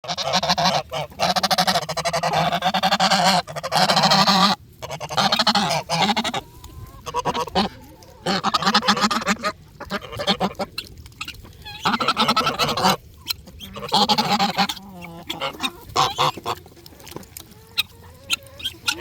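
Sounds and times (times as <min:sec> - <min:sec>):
geese honking: 0:00.0 - 0:16.8, 0:17.4 - 0:19.0.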